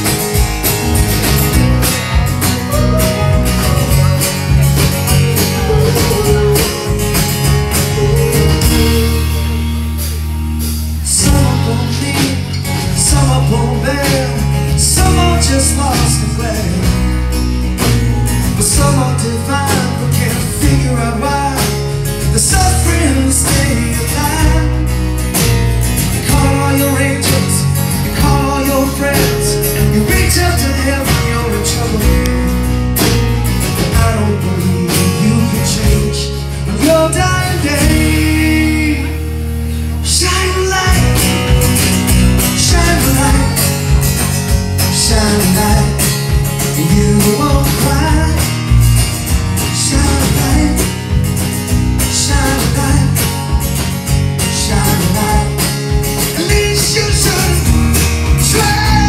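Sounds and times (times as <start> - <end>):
acoustic guitar: 0.0 - 59.0
bass guitar: 0.0 - 59.0
drum kit: 0.0 - 59.0
keyboards: 0.0 - 59.0
man singing: 1.8 - 10.2, 11.0 - 25.2, 26.0 - 53.8, 54.4 - 59.0.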